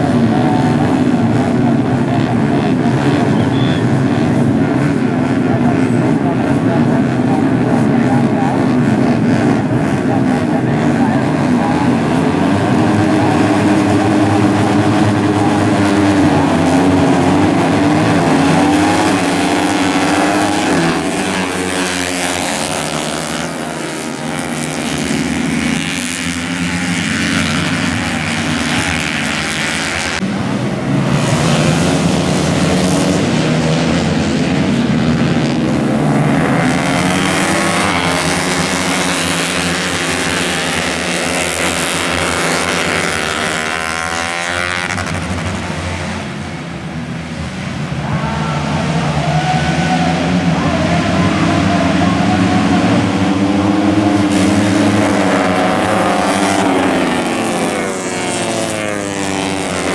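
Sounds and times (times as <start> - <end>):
motorcycle engines revving hard: 0.0 - 59.9.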